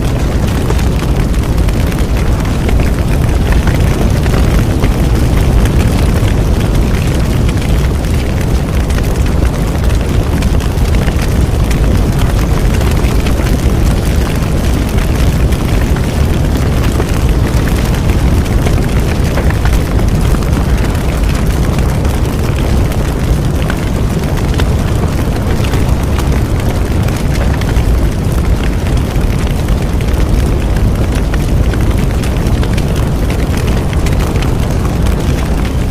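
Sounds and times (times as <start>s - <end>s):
bonfire roaring and crackling: 0.0s - 35.9s.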